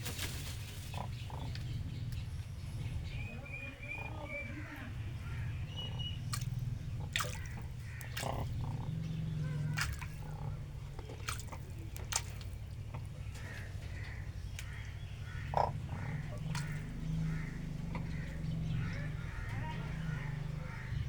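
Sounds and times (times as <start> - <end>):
steady low hum: 0.0 - 21.0
water splashing: 1.9 - 21.0.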